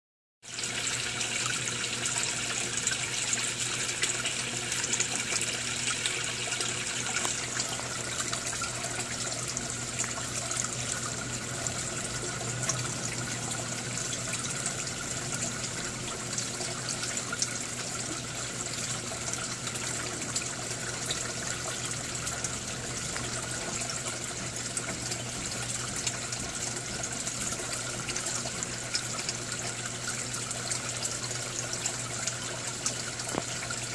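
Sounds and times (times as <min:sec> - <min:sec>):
water splashing and trickling: 0:00.4 - 0:33.9
low steady hum: 0:00.5 - 0:33.9.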